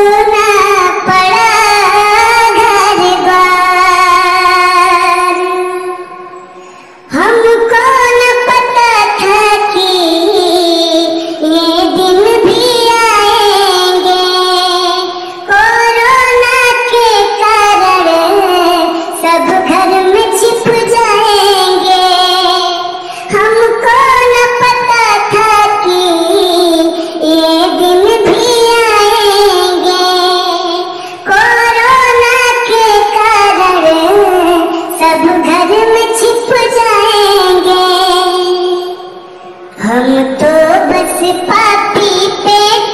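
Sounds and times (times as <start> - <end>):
high-pitched voice singing: 7.1 - 39.1, 39.8 - 42.9.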